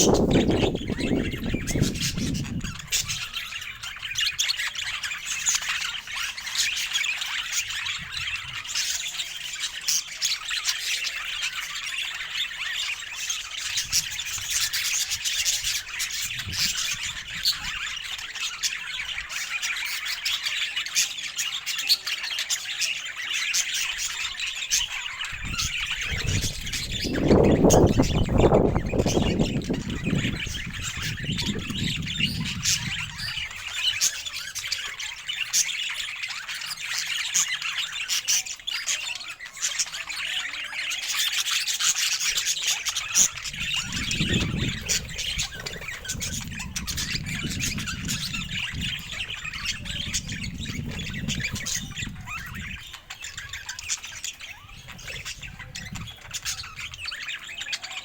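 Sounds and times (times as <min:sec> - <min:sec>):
parakeets chirping and chattering: 0:00.0 - 0:58.0.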